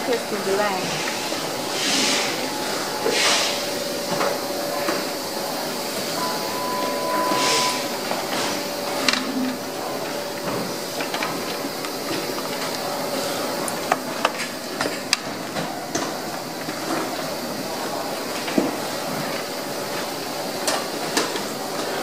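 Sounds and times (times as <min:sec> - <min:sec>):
factory background noise: 0:00.0 - 0:22.0.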